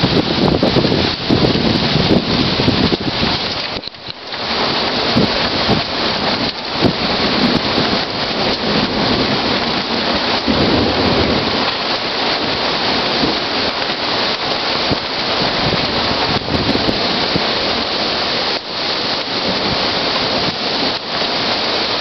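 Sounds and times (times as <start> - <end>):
thunder rumble: 0.0 - 3.8, 4.4 - 22.0
rain falling: 0.0 - 22.0.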